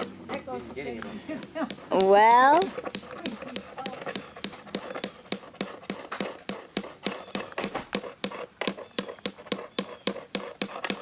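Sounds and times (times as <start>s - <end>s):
hammer driving nail into wood: 1.4s - 11.0s.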